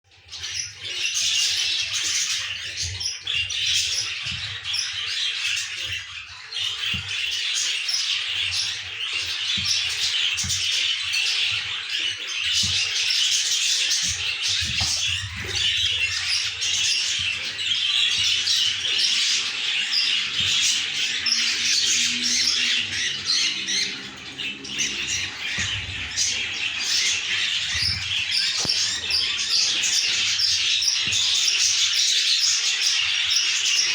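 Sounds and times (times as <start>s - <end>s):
budgerigars chattering and squawking: 0.1s - 33.9s.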